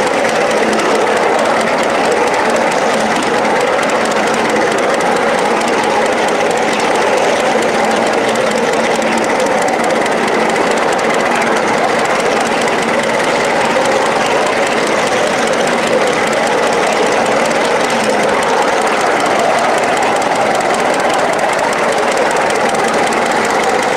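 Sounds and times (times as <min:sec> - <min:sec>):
small steam locomotive running: 0:00.0 - 0:23.9.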